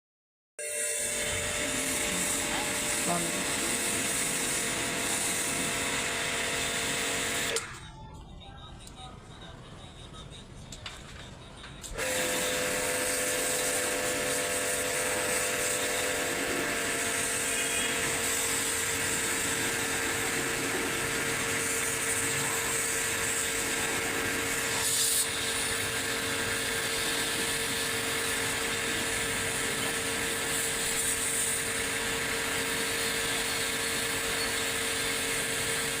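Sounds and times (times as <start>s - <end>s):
machine whirring and humming: 0.6s - 36.0s.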